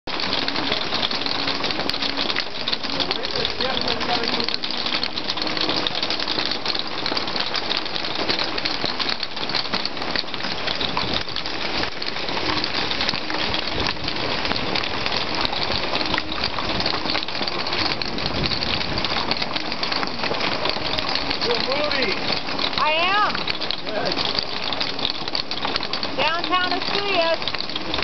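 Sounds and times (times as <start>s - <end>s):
hail and rain pelting down: 0.1s - 28.0s.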